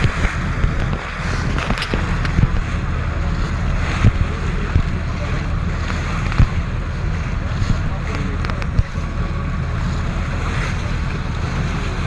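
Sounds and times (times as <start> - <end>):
ship engine humming: 0.0 - 12.0
wind and water rushing: 0.0 - 12.0
wind thumps on microphone: 0.0 - 12.0.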